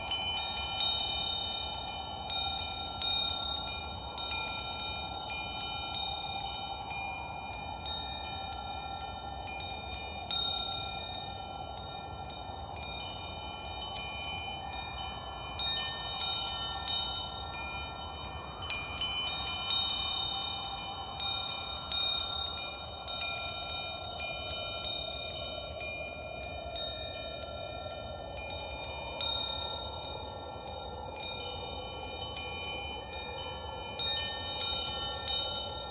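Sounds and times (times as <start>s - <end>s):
soft steady rushing noise: 0.0s - 35.9s
wind chimes ringing: 0.0s - 35.9s.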